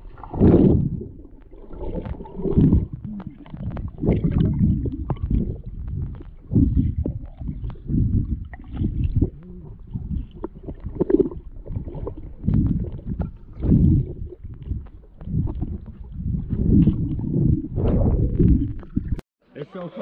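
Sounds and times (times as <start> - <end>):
water sloshing and splashing: 0.0 - 19.2.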